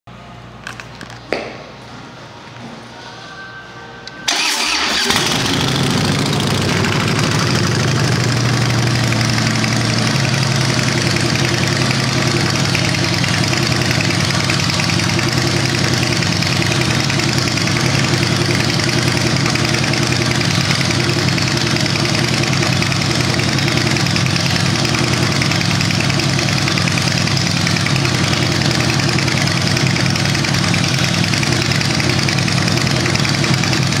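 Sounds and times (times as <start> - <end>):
motorcycle engine idling: 4.3 - 34.0.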